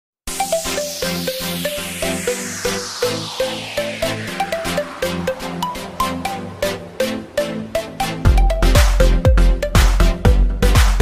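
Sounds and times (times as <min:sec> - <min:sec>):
electronic music with steady beat: 0:00.3 - 0:11.0.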